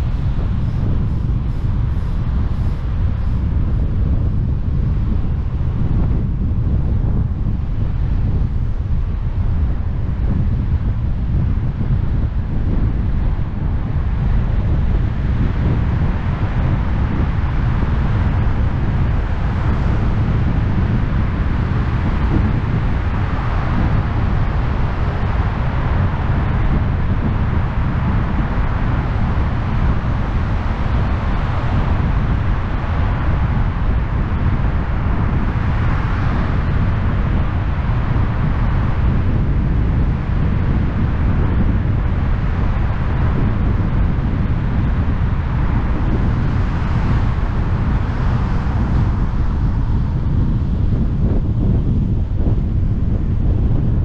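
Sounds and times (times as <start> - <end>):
car road noise in tunnel: 0.0 - 54.0.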